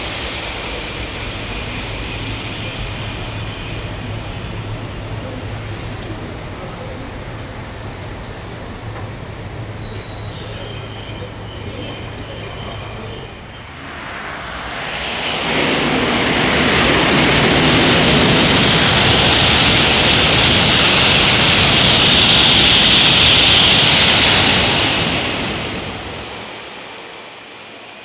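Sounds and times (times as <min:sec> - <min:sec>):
high-speed train passing: 0:00.0 - 0:28.0.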